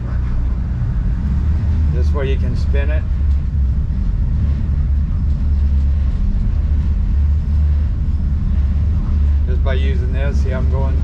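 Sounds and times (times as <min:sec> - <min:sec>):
boat engines rumbling: 0:00.0 - 0:11.0.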